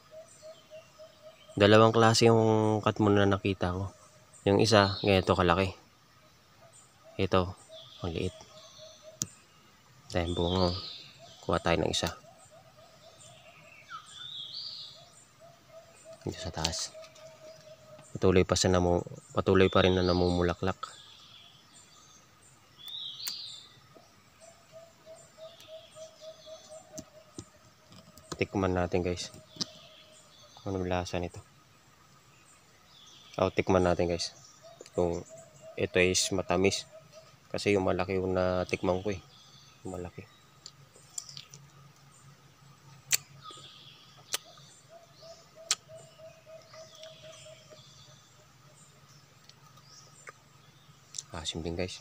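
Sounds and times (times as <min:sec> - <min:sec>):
bird high chirp: 0:00.0 - 0:52.0.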